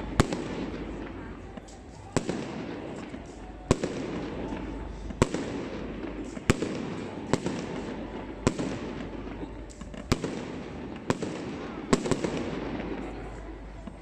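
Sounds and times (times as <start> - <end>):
fireworks exploding: 0.0 - 14.0
steady background din: 0.0 - 14.0.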